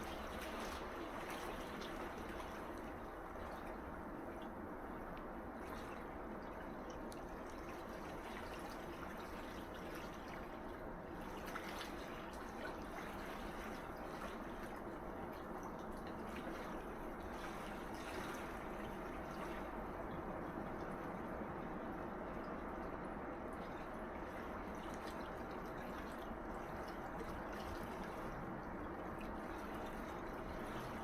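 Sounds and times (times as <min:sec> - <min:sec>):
light water splashes: 0:00.0 - 0:31.0
sea waves washing on shore: 0:00.0 - 0:31.0.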